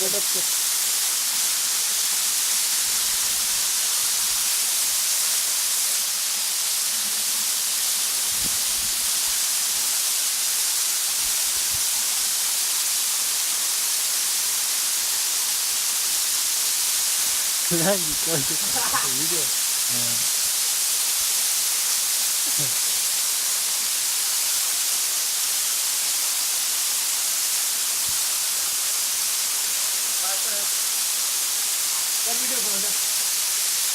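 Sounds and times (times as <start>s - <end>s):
waterfall rushing: 0.0s - 11.2s, 12.0s - 25.1s, 27.6s - 33.9s.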